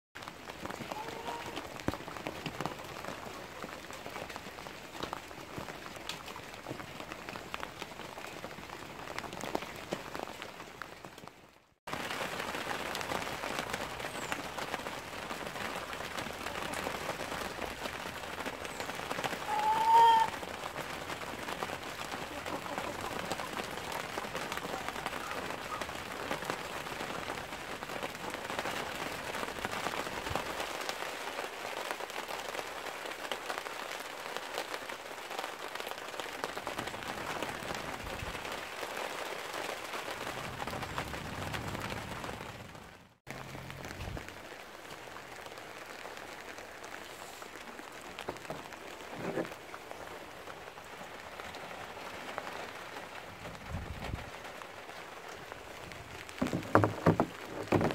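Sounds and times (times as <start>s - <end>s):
rain falling: 0.2s - 57.9s.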